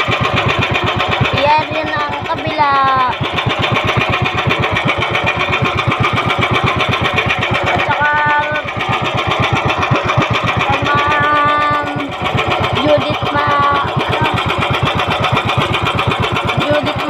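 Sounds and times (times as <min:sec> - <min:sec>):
boat engine throbbing: 0:00.0 - 0:17.0.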